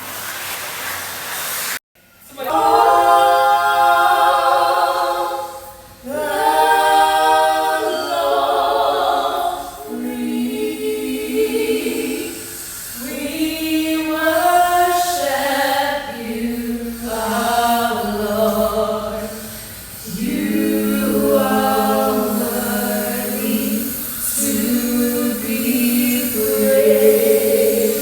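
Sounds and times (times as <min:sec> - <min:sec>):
group singing a cappella: 0:02.2 - 0:28.0.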